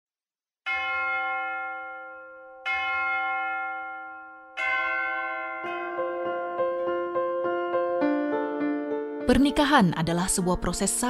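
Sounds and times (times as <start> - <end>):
church bell ringing: 0.7 - 9.7.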